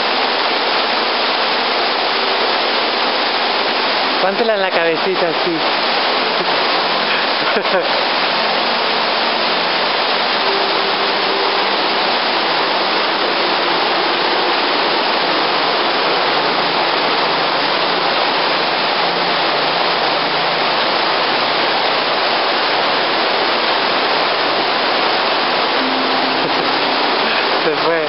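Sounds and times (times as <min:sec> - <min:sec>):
loud rushing noise: 0:00.0 - 0:28.0.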